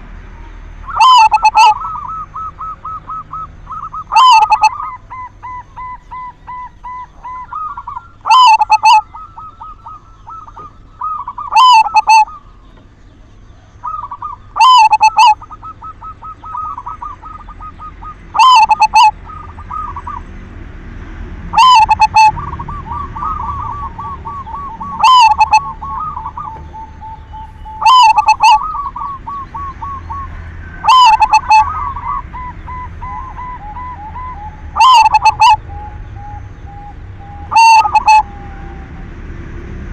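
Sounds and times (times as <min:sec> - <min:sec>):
dove cooing: 0:00.0 - 0:39.9
soft rapid staccato bird notes: 0:00.8 - 0:20.2, 0:21.6 - 0:38.2.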